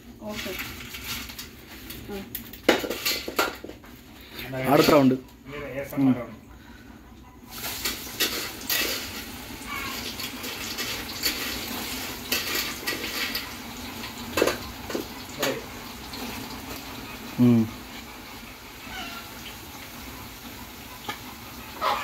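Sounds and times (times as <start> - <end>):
plantain slices sizzling in hot oil: 0.0 - 5.2, 7.4 - 22.0
frying oil crackling: 0.0 - 5.4, 6.6 - 22.0.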